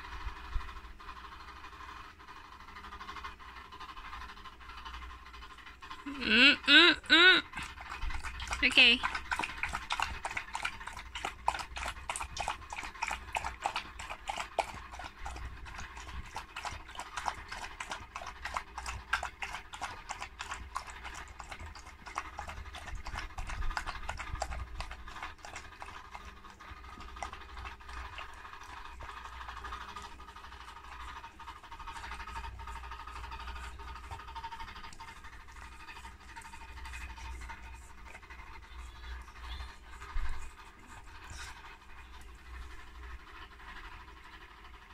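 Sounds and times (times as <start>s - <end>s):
dog lapping from metal bowl: 7.4s - 44.8s.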